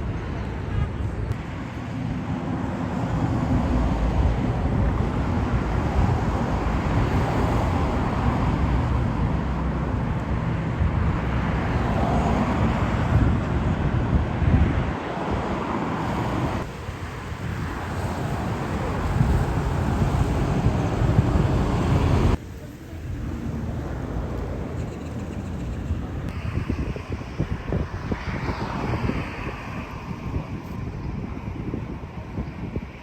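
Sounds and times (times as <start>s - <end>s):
road traffic: 0.0s - 33.0s
wind rumbling on microphone: 0.0s - 33.0s.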